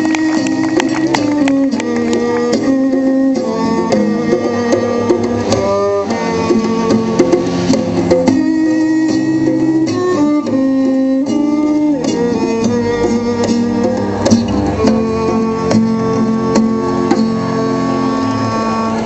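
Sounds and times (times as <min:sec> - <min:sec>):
guitar plucking notes: 0:00.0 - 0:19.0
violin and cello bowed: 0:00.0 - 0:19.0.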